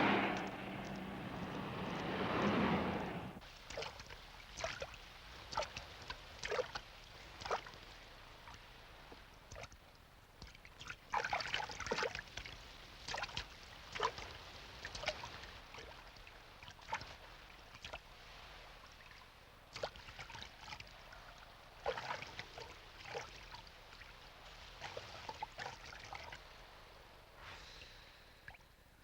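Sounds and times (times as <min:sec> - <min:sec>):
water splashing and sloshing: 0:00.0 - 0:28.8.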